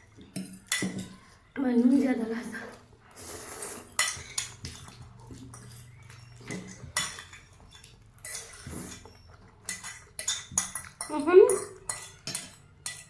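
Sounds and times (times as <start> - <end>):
cutlery clinking against a bowl: 0.0 - 1.5, 3.5 - 13.0.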